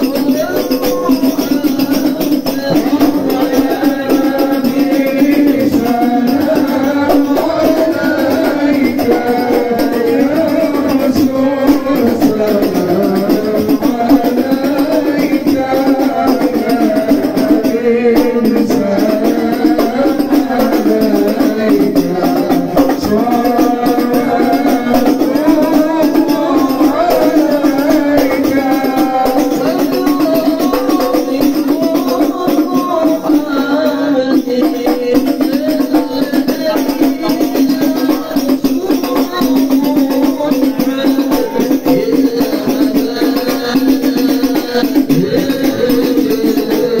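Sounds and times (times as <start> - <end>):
jingling frame drums: 0.0 - 47.0
men singing in unison: 0.0 - 47.0.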